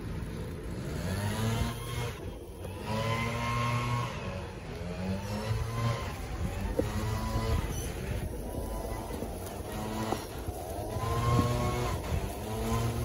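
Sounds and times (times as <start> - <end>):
small engine revving: 0.0 - 13.0.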